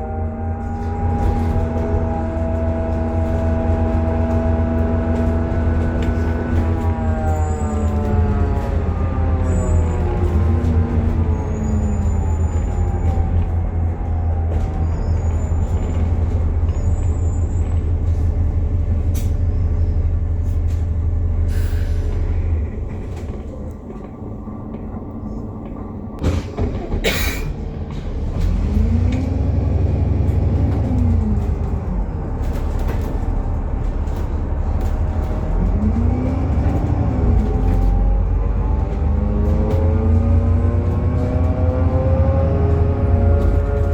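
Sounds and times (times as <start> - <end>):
bus axle whine and engine drone: 0.0 - 43.9.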